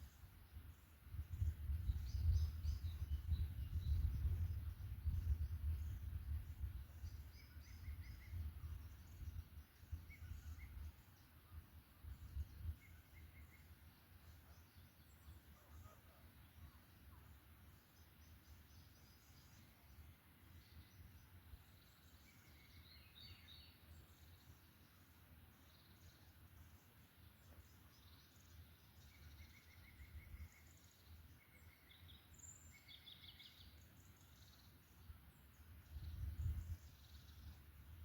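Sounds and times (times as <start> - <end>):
songbirds chirping: 0.0 - 38.0.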